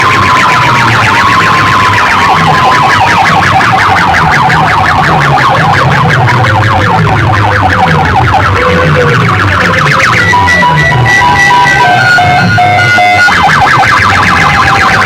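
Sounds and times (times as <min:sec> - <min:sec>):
electronic siren-like alarm effect: 0:00.0 - 0:15.0
repeating bass pattern: 0:00.0 - 0:15.0.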